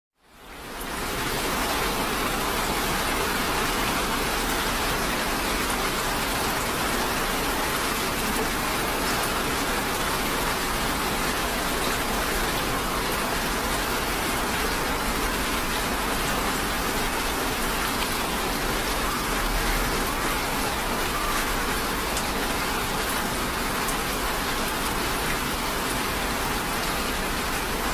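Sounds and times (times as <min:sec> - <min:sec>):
steady rain falling: 0:00.2 - 0:27.9.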